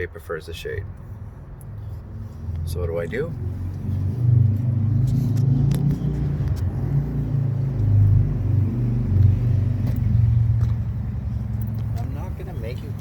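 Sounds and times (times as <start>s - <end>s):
steady low rumble: 0.8s - 13.0s.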